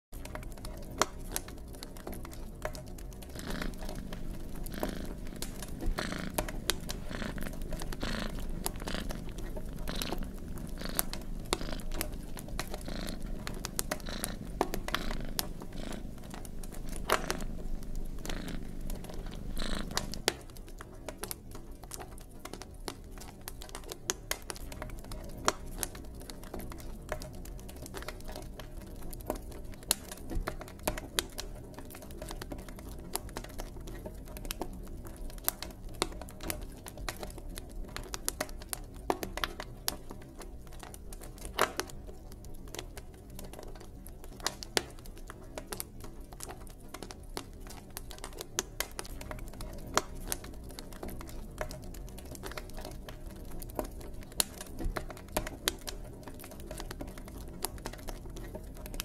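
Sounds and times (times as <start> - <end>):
low rumble of flames: 0.2 - 59.0
wood fire crackling and popping: 0.2 - 59.0.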